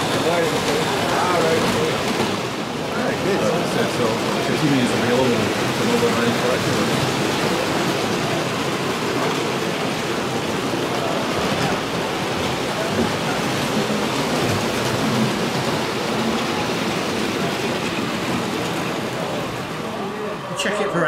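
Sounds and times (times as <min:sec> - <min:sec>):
indistinct crowd chatter: 0:00.0 - 0:21.0
model trains running: 0:00.0 - 0:21.0.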